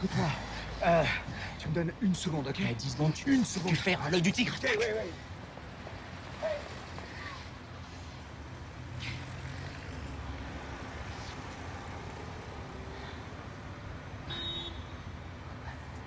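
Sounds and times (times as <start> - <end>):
low rumble of cars: 0.0 - 16.0.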